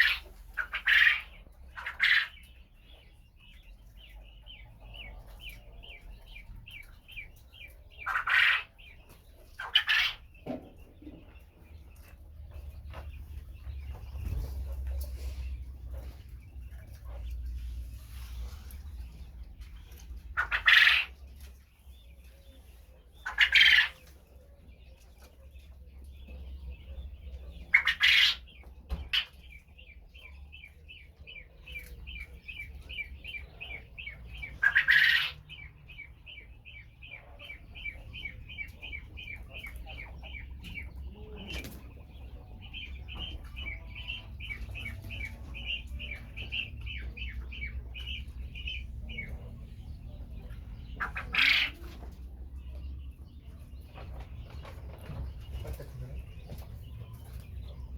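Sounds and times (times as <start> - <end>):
quail rapid high chirps: 0.0 - 57.9.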